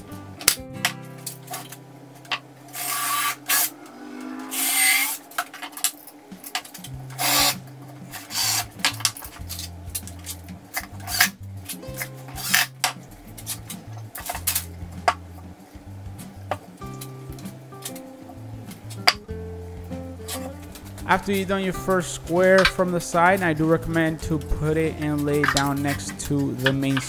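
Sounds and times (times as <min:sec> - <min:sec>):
background music with bass line: 0:00.0 - 0:02.7, 0:06.8 - 0:27.0.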